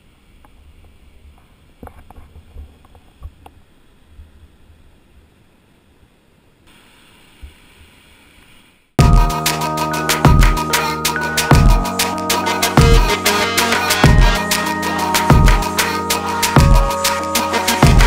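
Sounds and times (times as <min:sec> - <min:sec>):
faint steady hiss: 0:00.0 - 0:17.8.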